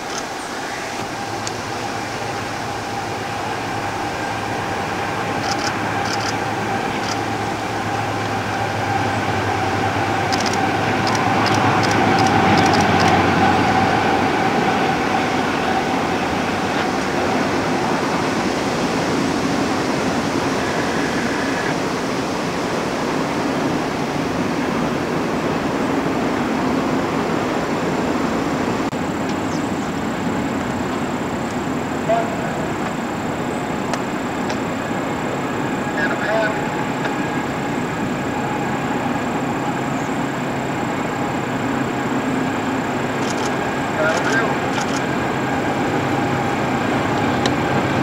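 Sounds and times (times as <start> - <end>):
diesel locomotive engine drone: 0.0 - 48.0
train wheels rumbling on rail: 0.0 - 48.0.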